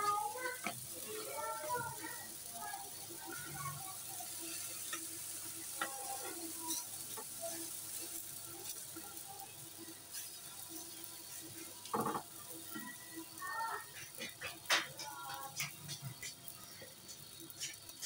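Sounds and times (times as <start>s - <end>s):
dough sizzling on a griddle: 0.0s - 18.0s.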